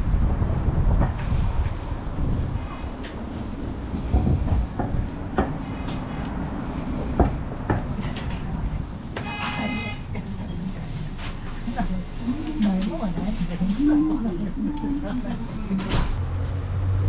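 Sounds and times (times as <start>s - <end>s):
tram equipment rumbling: 0.0s - 17.0s.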